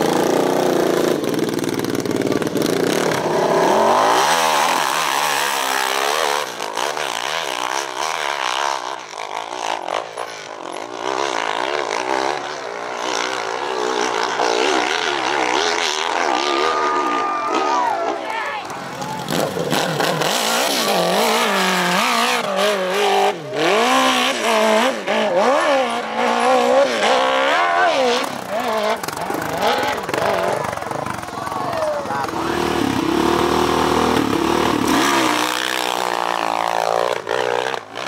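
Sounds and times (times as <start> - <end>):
motorcycle engine revving hard: 0.0 - 18.1, 18.8 - 38.0.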